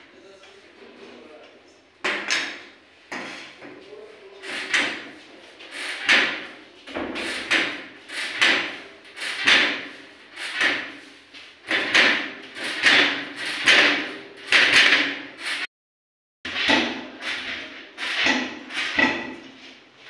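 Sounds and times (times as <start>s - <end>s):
dough kneaded on steel table: 2.0s - 15.7s, 16.5s - 20.0s.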